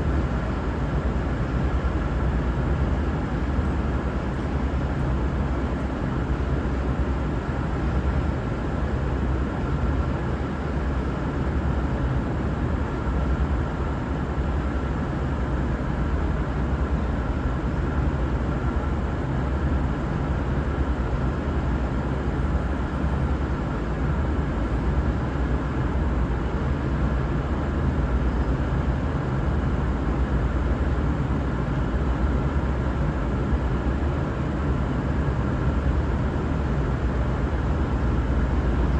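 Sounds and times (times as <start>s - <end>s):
railcar diesel engines droning: 0.0s - 38.9s.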